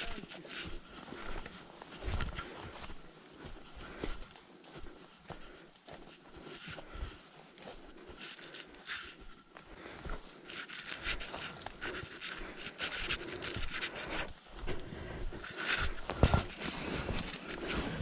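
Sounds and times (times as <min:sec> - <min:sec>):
footsteps crunching through dry leaves: 0:00.0 - 0:18.0.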